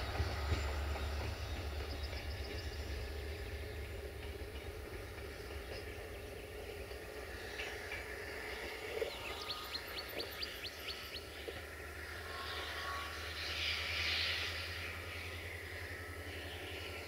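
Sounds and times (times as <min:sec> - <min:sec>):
train rolling over tracks: 0:00.0 - 0:17.0.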